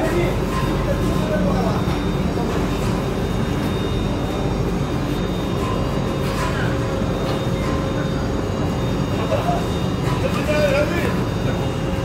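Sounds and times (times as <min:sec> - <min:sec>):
mill machinery running: 0:00.0 - 0:12.0.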